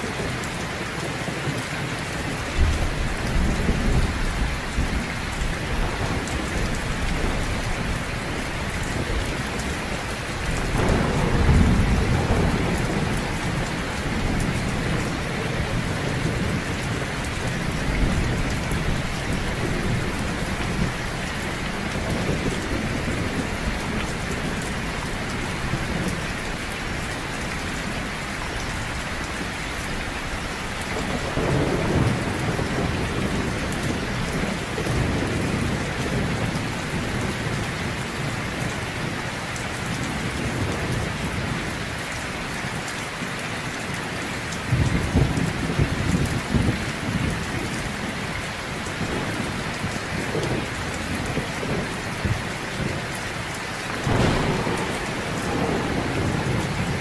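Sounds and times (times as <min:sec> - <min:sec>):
heavy rain falling: 0:00.0 - 0:57.0
low rolling thunder: 0:02.0 - 0:41.9, 0:44.6 - 0:57.0.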